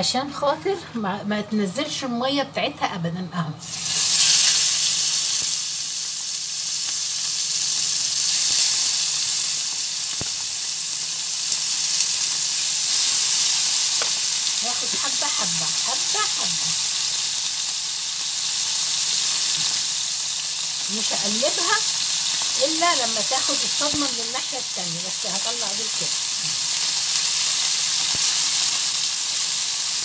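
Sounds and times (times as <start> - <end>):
liver sizzling in hot oil: 3.6 - 30.0.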